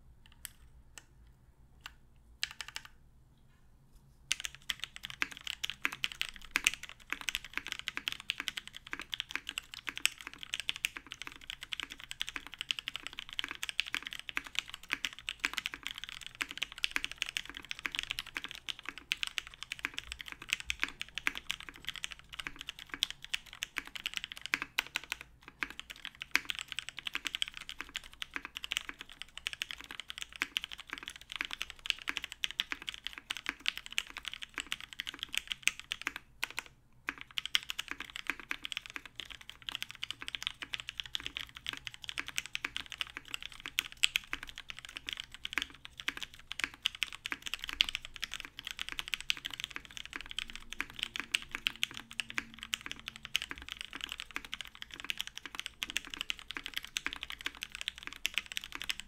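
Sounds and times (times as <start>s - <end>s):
mechanical keyboard typing: 1.8s - 3.0s, 4.3s - 59.0s.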